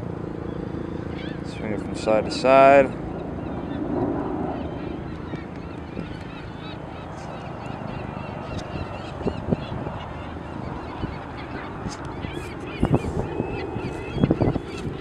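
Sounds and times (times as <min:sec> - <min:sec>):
gulls calling: 0:00.0 - 0:15.0
wind rumbling on microphone: 0:00.0 - 0:15.0.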